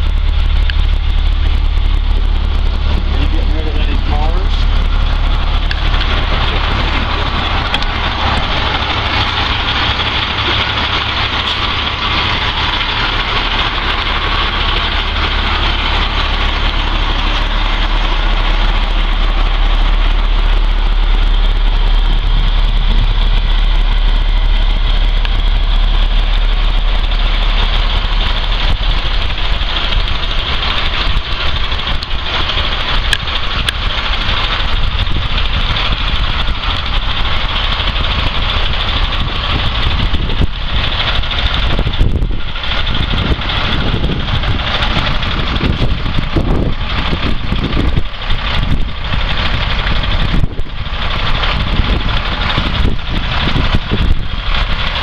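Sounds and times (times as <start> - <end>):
bus engine idling: 0.0 - 55.0.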